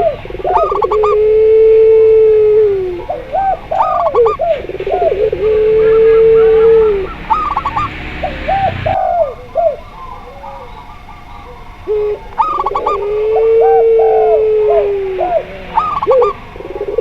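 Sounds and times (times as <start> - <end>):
doves cooing: 0.0 - 17.0
long low dove coo: 0.0 - 17.0.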